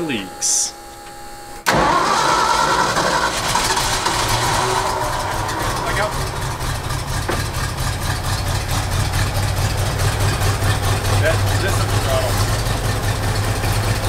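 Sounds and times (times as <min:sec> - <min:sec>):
truck engine idling: 0:01.7 - 0:14.0.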